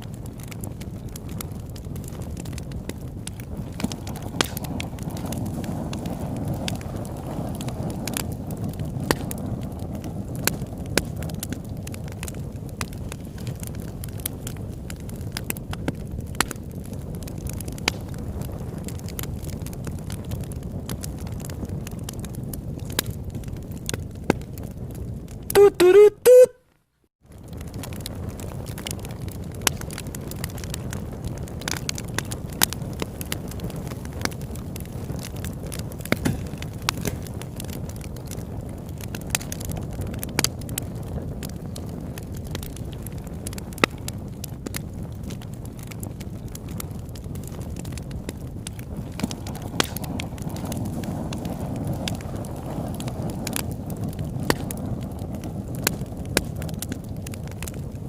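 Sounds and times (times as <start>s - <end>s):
campfire crackling and popping: 0.0s - 26.5s, 27.1s - 58.0s.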